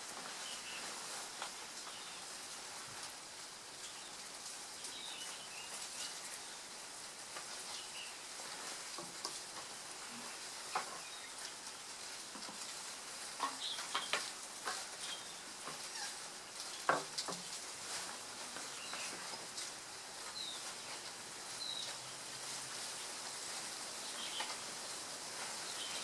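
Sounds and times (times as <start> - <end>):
leaves crackling and rustling: 0.0 - 26.0
steady high hiss: 0.0 - 26.0.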